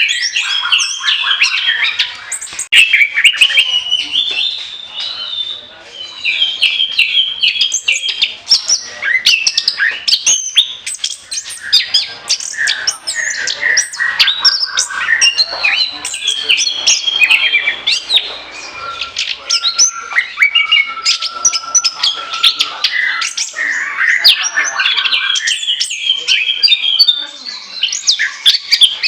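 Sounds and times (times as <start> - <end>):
bird singing whistled song: 0.0 - 29.0.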